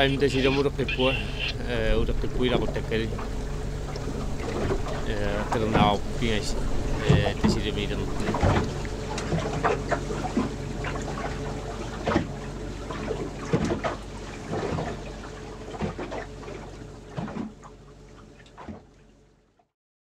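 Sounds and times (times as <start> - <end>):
vehicle engine hum: 0.0 - 19.3.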